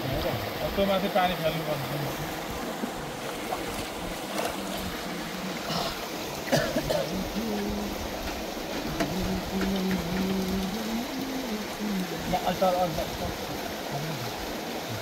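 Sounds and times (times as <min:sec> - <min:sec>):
faint voices: 0:00.0 - 0:15.0
stream water running: 0:00.0 - 0:15.0.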